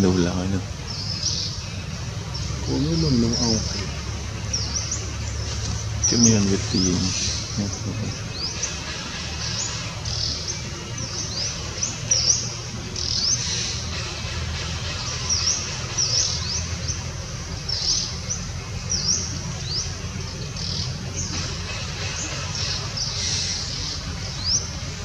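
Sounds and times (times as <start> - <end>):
bird chirping: 0.0 - 25.0
steady low rumble: 0.0 - 25.0.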